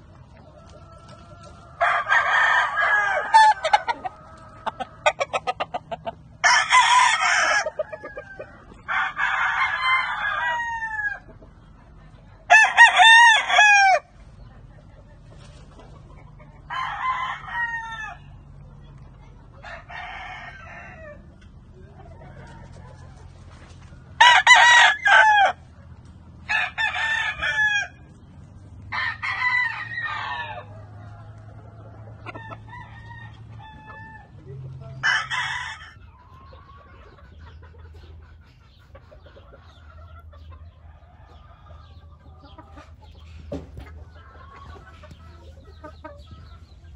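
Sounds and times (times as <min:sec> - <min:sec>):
roosters crowing: 0:00.0 - 0:11.8, 0:12.4 - 0:14.2, 0:16.0 - 0:18.6, 0:19.6 - 0:46.9.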